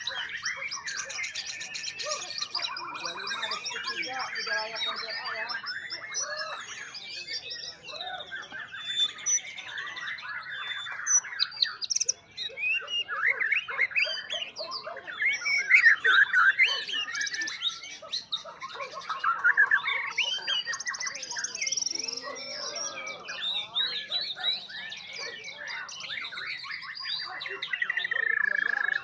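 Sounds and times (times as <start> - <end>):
bird singing whistles and trills: 0.0 - 29.0.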